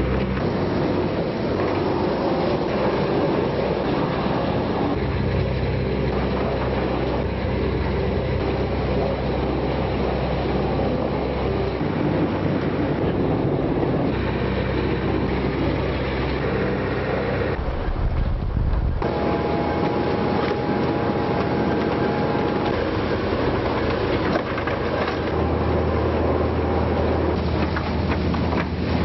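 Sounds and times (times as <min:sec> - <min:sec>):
low engine hum: 0:00.0 - 0:29.0
rotating drum and conveyors: 0:00.0 - 0:29.0.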